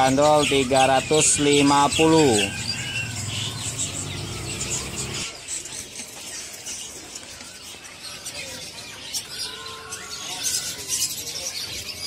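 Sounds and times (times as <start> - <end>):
caged songbirds chirping: 0.0 - 12.0.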